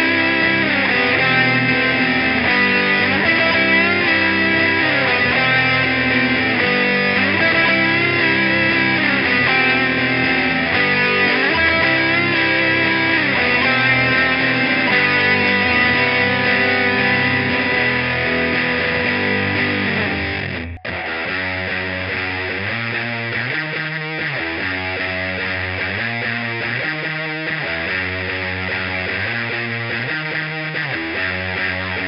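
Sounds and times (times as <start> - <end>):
distorted electric guitar chords: 0.0 - 32.0.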